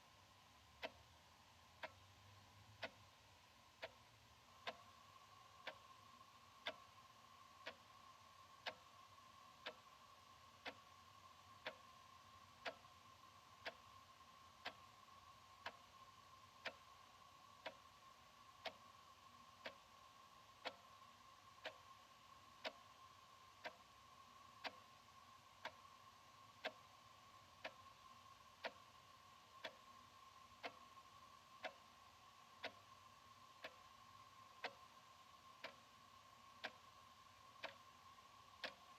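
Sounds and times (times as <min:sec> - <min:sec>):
faint steady whine: 0:00.0 - 0:38.9
wall clock ticking: 0:00.7 - 0:01.1, 0:01.7 - 0:02.1, 0:02.7 - 0:38.9.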